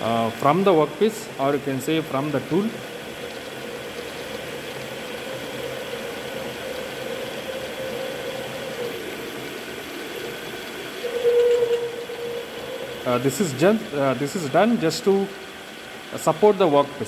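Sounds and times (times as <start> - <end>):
lathe drilling hum: 0.0 - 17.0.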